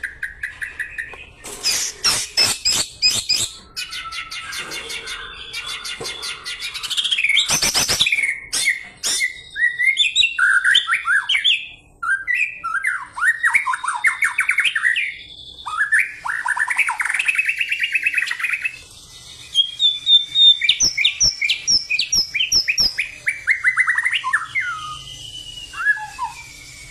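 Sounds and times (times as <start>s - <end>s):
bird singing fast trills: 0.0s - 26.9s.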